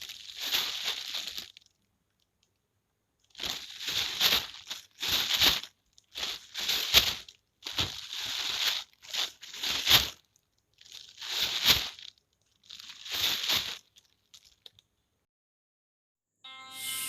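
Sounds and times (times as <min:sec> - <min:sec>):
plastic bag crinkling: 0:00.0 - 0:02.5, 0:03.2 - 0:14.8.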